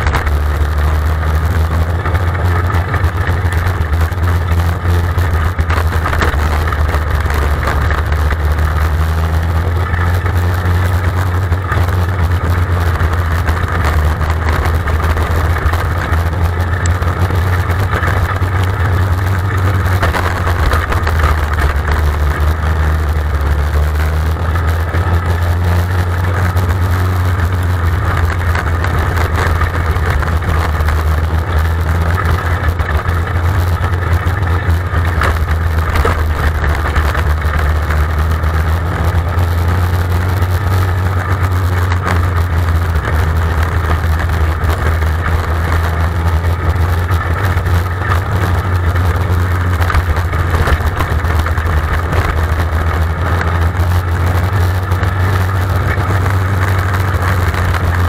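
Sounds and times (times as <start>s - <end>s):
race car engine droning: 0.0s - 58.0s.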